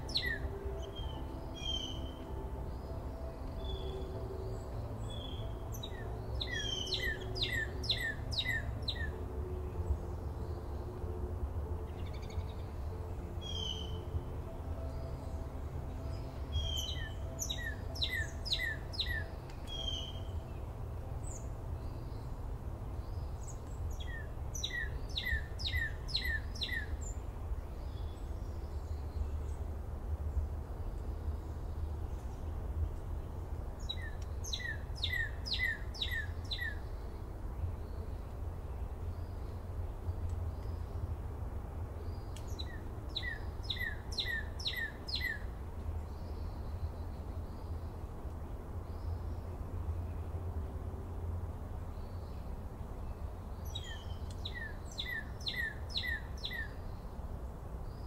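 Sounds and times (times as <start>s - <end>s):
low background rumble: 0.0s - 56.5s
songbird singing: 0.0s - 58.0s.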